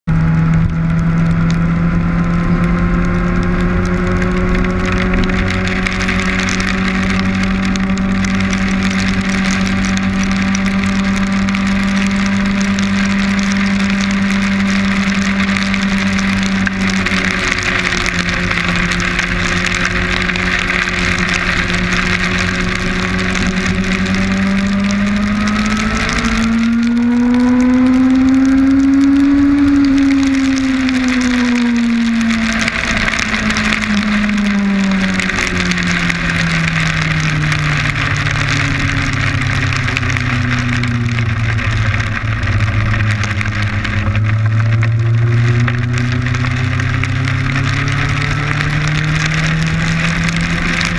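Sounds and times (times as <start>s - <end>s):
motorcycle engine running: 0.0s - 50.9s
rain hitting camera: 0.1s - 50.9s.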